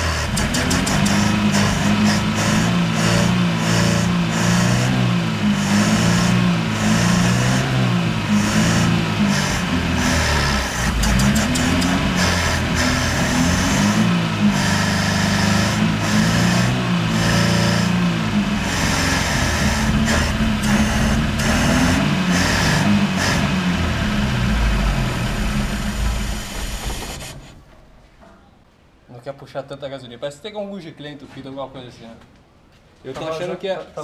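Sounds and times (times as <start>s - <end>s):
car engine revving: 0.0s - 27.7s.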